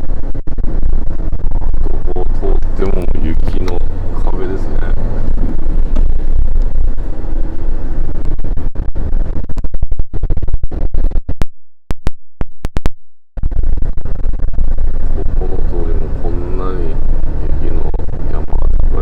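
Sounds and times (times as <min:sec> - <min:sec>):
loud low rumbling: 0:00.0 - 0:19.0.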